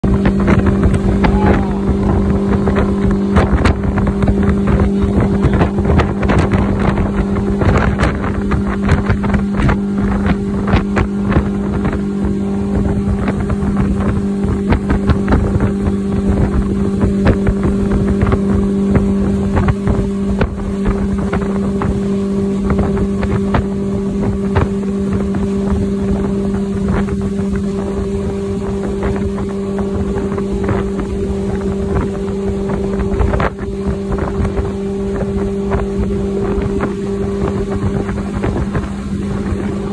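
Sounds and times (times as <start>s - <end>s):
motorboat engine droning: 0.0s - 39.9s
wind buffeting microphone: 0.0s - 39.9s.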